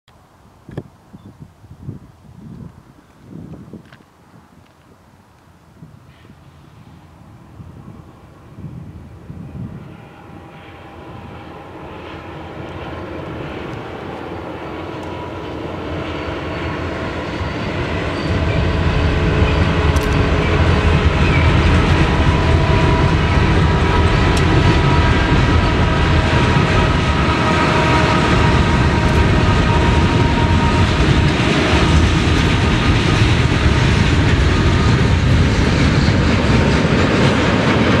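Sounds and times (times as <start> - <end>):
diesel locomotive engines: 2.6 - 38.0.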